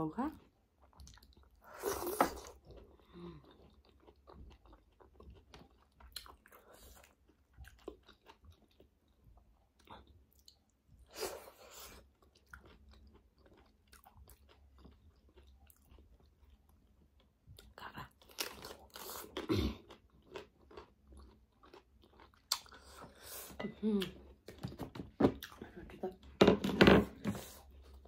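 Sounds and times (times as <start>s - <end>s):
person chewing food: 0.4s - 25.6s.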